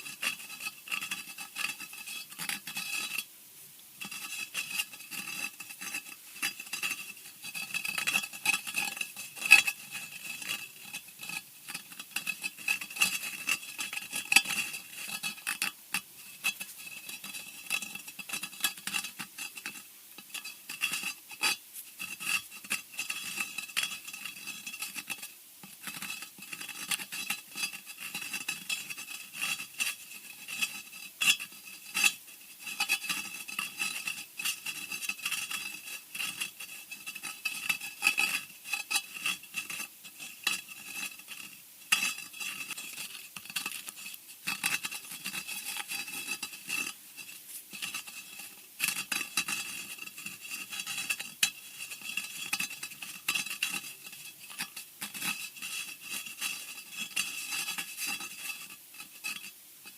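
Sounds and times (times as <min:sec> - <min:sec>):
scratching and scraping: 0:00.0 - 0:03.3, 0:04.0 - 0:59.9.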